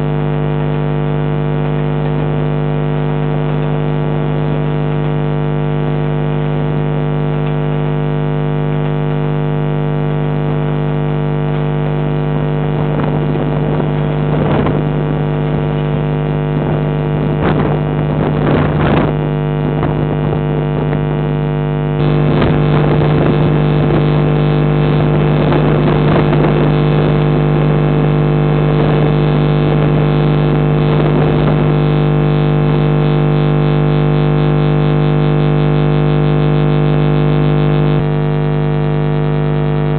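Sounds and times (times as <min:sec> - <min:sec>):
steady electrical hum: 0:04.7 - 0:39.9.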